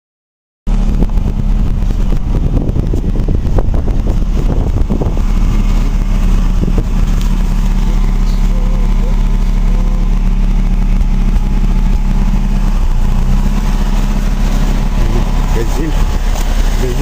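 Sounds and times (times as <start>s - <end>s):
van engine droning: 0.7s - 17.0s.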